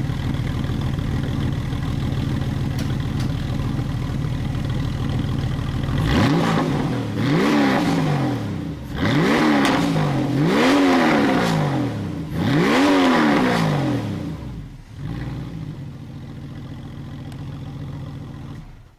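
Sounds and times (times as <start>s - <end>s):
car engine idling: 0.0s - 18.9s
car engine revving: 0.0s - 18.9s.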